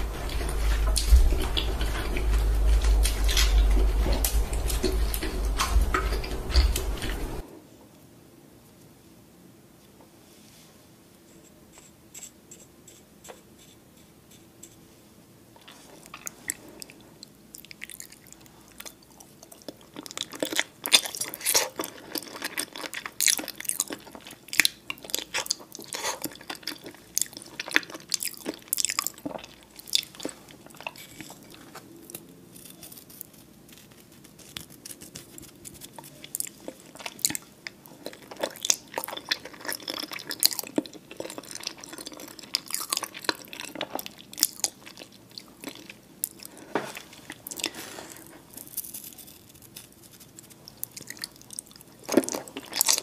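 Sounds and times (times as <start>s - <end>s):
wet chewing mouth sounds: 0.0s - 7.4s, 15.6s - 48.3s, 49.9s - 53.0s.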